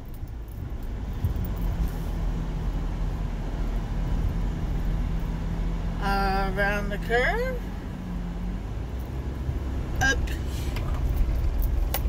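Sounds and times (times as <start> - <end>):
car engine hum from inside: 0.0 - 12.0.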